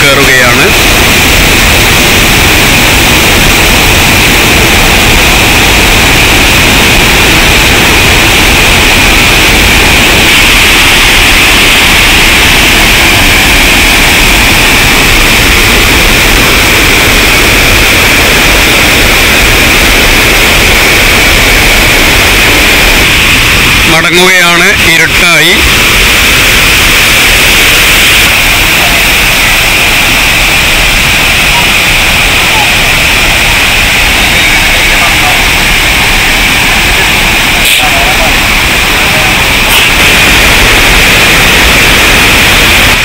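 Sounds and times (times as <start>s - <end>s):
water pouring over waterfall: 0.0s - 43.0s.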